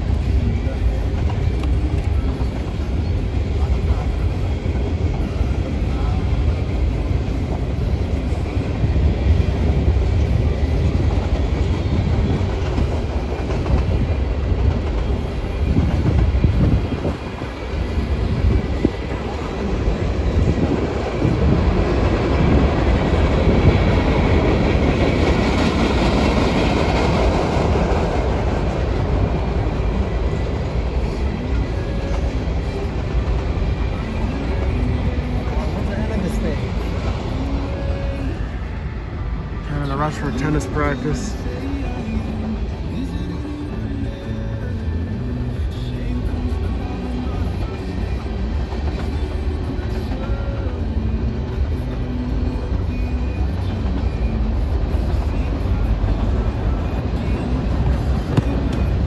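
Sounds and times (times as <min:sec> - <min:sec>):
train wheels rumbling and clattering: 0:00.0 - 0:59.0.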